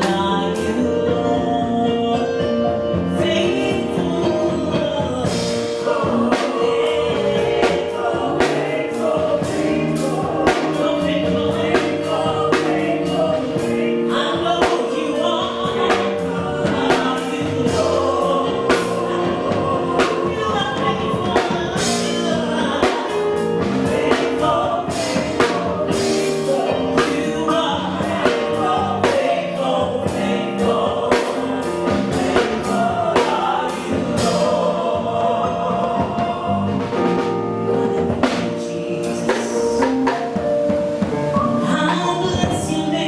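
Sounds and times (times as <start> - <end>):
choir singing: 0.0 - 40.2
gospel band playing: 0.0 - 43.0.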